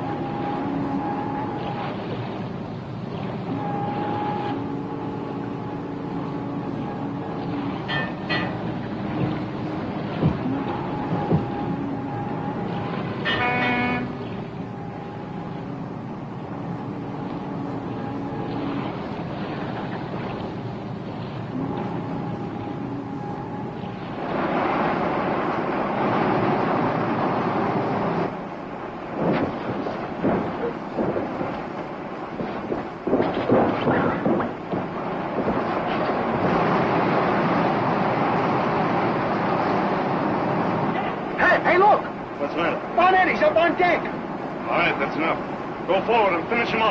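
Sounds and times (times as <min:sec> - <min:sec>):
boat engine and water rush: 0:00.0 - 0:46.9.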